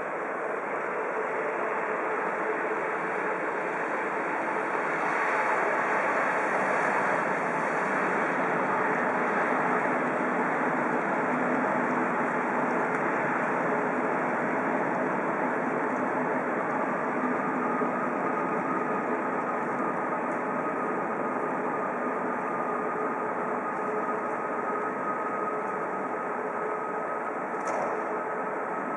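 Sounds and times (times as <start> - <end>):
faint steady whine: 0.0 - 28.9
train rumbling: 0.0 - 28.9.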